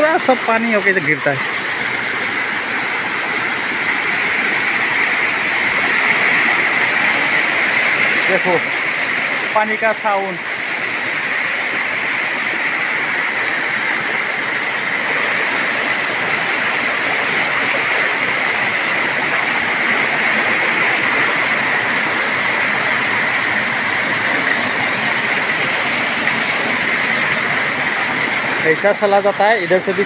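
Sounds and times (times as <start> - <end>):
waterfall rushing over rocks: 0.0 - 30.0.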